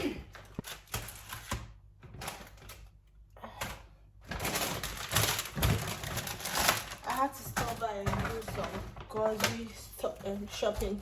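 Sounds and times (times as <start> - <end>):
shopping bags rustling: 0.4 - 2.9, 4.2 - 11.0.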